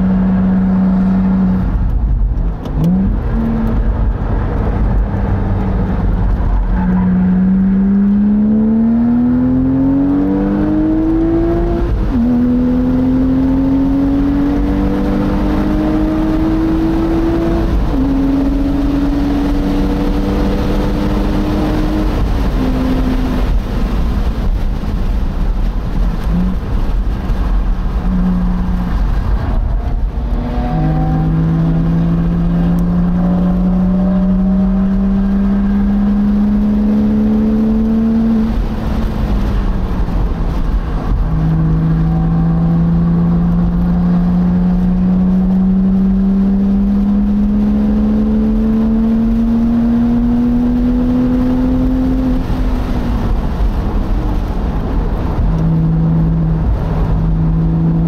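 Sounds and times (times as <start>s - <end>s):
car engine accelerating through gears: 0.0s - 58.0s
wind rumble: 0.0s - 58.0s.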